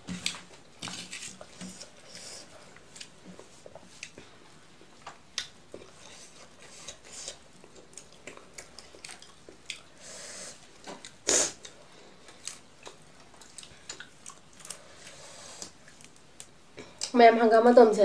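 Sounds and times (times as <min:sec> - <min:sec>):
chewing food: 0:00.0 - 0:10.0, 0:10.6 - 0:16.2.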